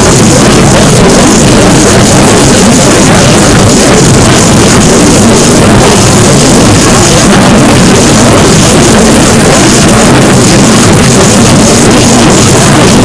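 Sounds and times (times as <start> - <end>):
distorted noise: 0.0 - 13.0.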